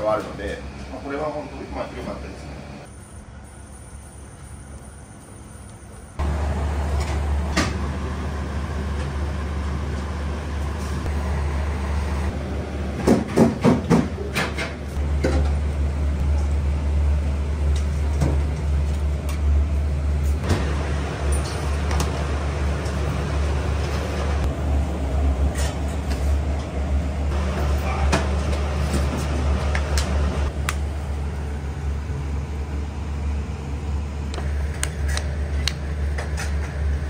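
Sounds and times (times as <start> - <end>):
ventilation drone: 0.0 - 4.9, 6.0 - 37.0.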